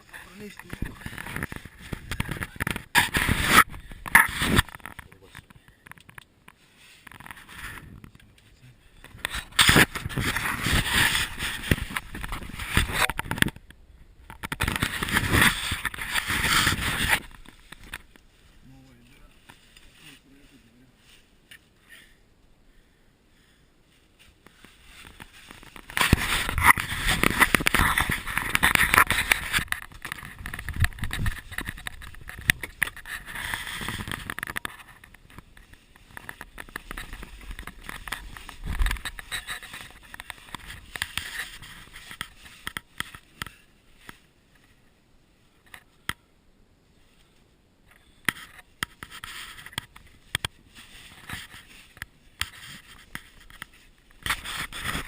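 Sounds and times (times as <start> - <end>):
scraping and rustling: 0.0 - 8.2, 9.0 - 21.7, 23.9 - 44.8, 47.0 - 55.0.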